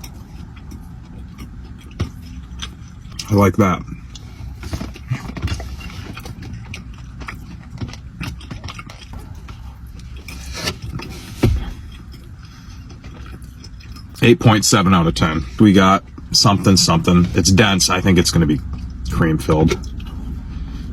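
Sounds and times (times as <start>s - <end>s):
person chewing: 0.0s - 17.5s, 19.6s - 20.9s
low steady hum: 0.0s - 20.9s.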